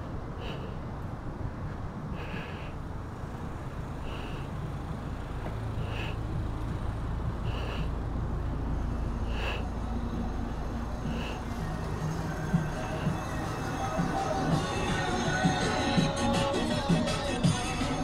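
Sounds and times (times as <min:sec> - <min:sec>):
traffic rumble: 0:00.0 - 0:18.0
vehicle engine hum: 0:00.0 - 0:18.0.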